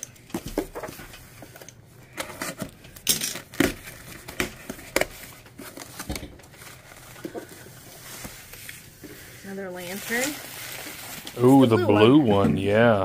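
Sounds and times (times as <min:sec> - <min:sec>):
cardboard rustling: 0:00.3 - 0:12.2.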